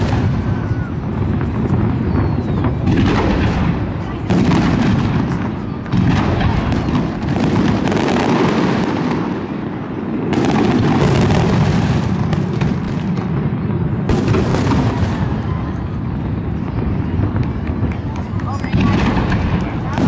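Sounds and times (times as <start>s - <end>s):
fireworks booming: 0.0s - 20.0s
fireworks crackling: 0.0s - 20.0s
loud firework bangs: 0.0s - 20.0s.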